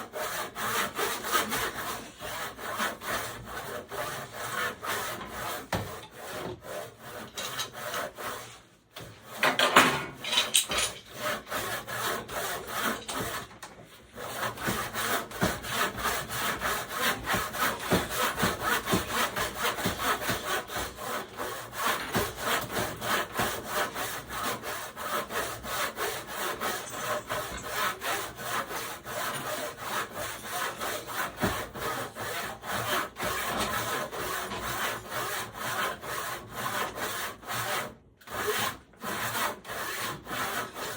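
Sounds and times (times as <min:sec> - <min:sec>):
handsaw cutting through wood: 0:00.0 - 0:40.9.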